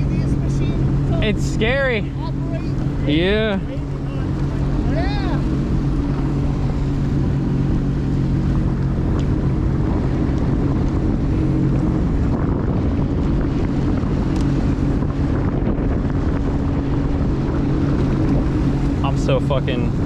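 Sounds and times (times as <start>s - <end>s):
jet ski engine droning: 0.0s - 20.0s
wind buffeting microphone: 0.0s - 20.0s.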